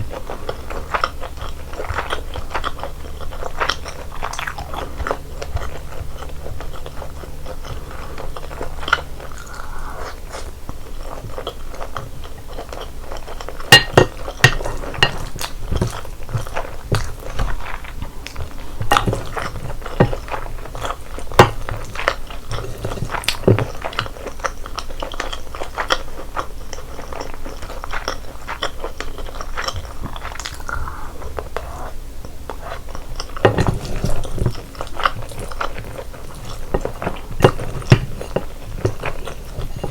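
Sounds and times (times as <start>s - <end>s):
wet chewing with crunches: 0.0s - 39.9s.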